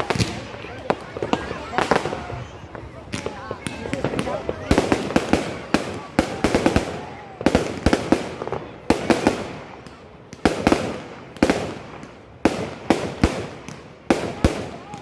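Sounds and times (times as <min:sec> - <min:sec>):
fireworks bangs echoing: 0:00.0 - 0:15.0.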